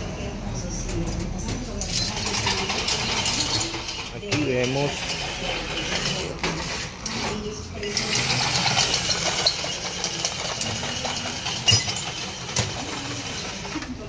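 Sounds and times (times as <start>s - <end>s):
mechanical running noise: 2.0s - 14.0s.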